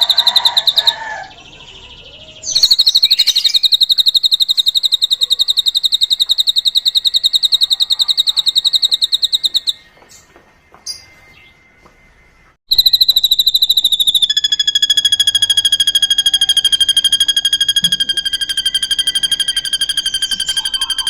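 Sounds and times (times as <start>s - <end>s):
bird trilling: 0.0s - 10.2s, 12.7s - 21.0s.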